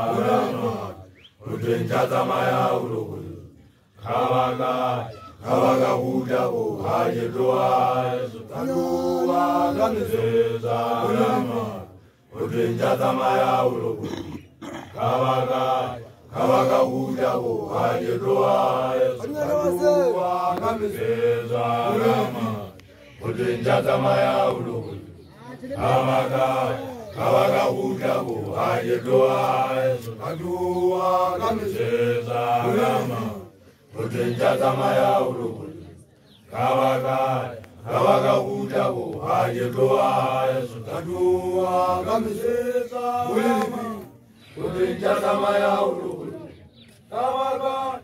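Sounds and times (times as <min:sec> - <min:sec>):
men chanting in unison: 0:00.0 - 0:48.0.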